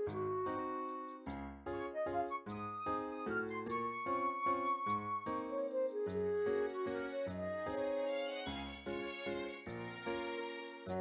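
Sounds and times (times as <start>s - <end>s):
light tune of held chords: 0.0s - 11.0s.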